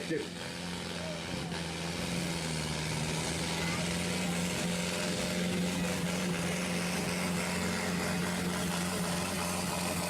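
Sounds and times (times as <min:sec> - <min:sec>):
tractor engine running loudly: 0:00.0 - 0:10.0.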